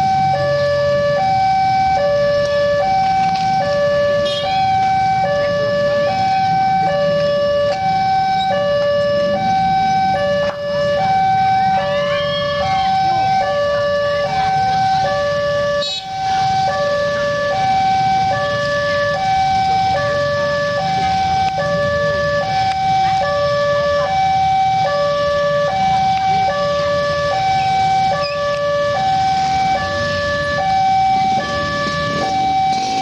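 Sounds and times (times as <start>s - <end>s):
car engines rumbling: 0.0s - 33.0s
level crossing alarm two-tone: 0.0s - 33.0s
motorcycle engines rumbling: 0.0s - 33.0s.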